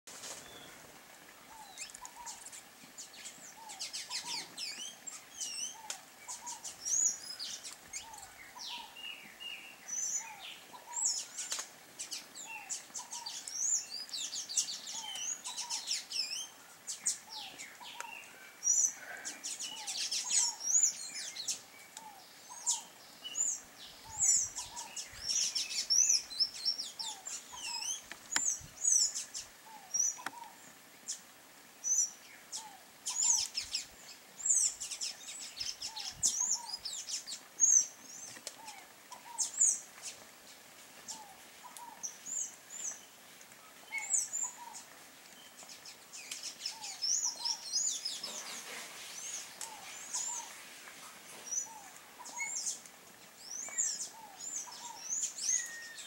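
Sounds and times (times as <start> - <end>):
songbirds chirping: 0.1 - 56.0.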